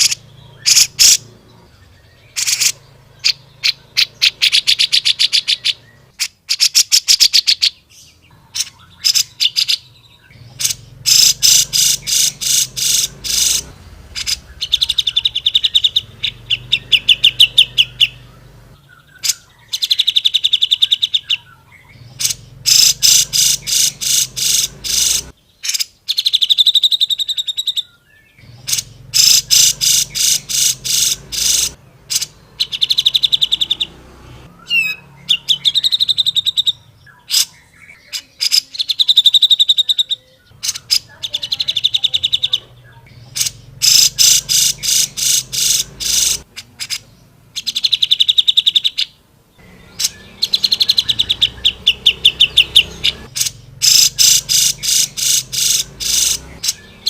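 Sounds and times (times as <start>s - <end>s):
bird singing rattling trills: 0.0s - 57.0s.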